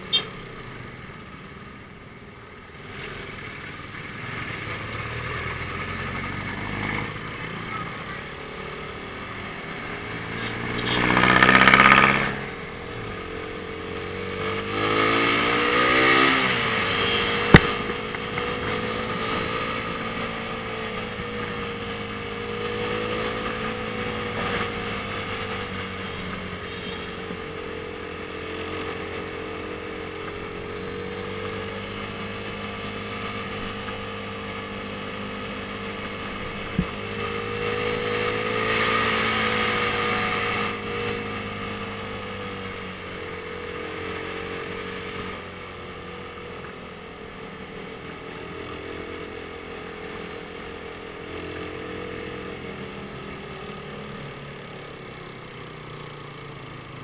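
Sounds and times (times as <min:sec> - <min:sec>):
motorcycle engine accelerating: 0:02.8 - 0:57.0.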